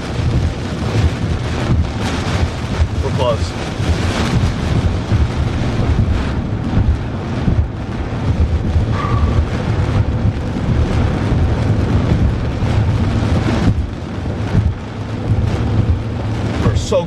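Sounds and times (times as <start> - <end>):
road noise: 0.0 - 17.0
wind buffeting car: 0.0 - 17.0.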